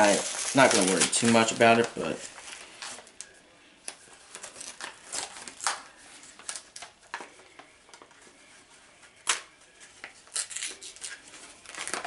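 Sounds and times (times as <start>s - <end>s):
paper and tape rustling: 0.0s - 3.3s, 3.9s - 12.0s.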